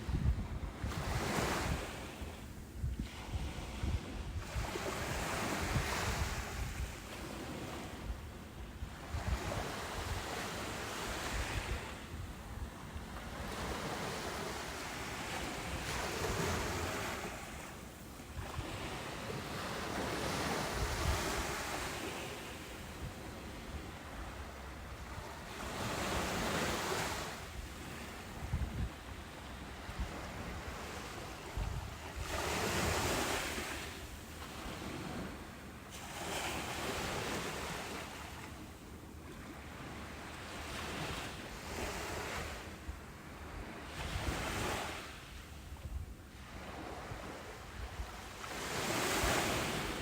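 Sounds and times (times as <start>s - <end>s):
wind rumble on microphone: 0.0s - 50.0s
ocean surf washing up beach: 0.8s - 38.5s, 46.6s - 50.0s.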